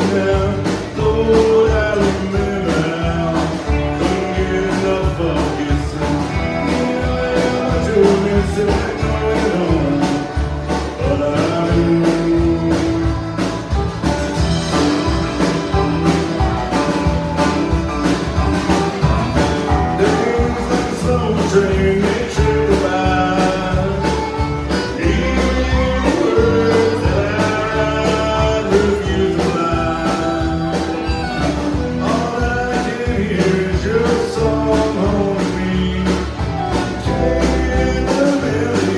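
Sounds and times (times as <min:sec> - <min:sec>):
man singing: 0:00.0 - 0:13.8, 0:19.6 - 0:38.9
acoustic and electric guitars: 0:00.0 - 0:38.9
bass guitar: 0:00.0 - 0:38.9
drums keeping a steady beat: 0:00.0 - 0:38.9
fiddle: 0:00.0 - 0:38.9.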